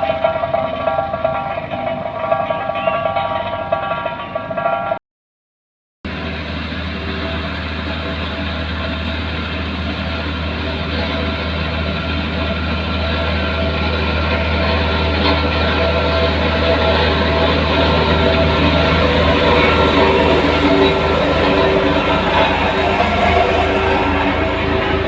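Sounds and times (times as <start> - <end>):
heavy diesel engine running: 0.0 - 4.9, 6.1 - 25.0.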